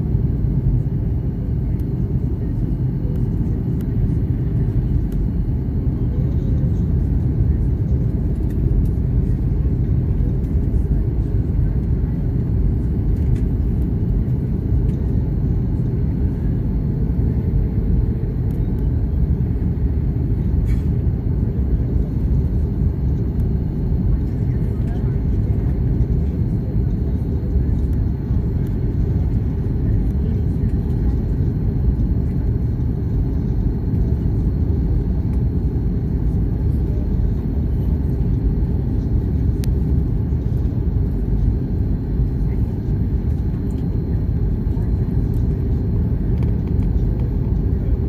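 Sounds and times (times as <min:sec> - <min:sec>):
jet engine rumble in cabin: 0:00.0 - 0:48.0.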